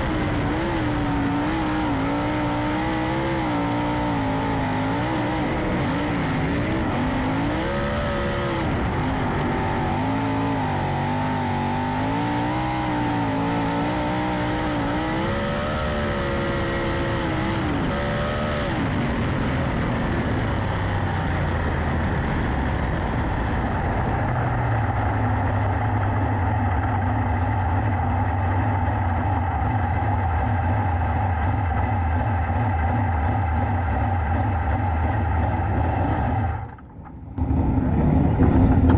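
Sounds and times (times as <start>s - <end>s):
low engine drone: 0.0s - 38.9s
race car engines: 0.0s - 38.9s.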